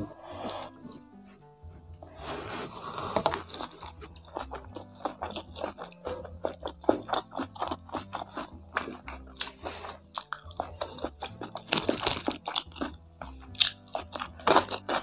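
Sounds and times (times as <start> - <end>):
background music with bass: 0.0 - 15.0
chewing crispy food: 2.0 - 15.0.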